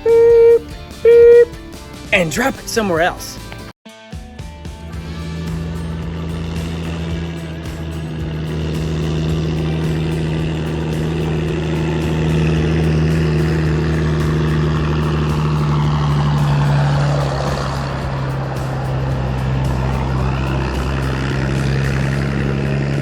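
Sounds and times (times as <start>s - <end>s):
heavy engine humming: 0.0s - 1.6s, 5.0s - 23.0s.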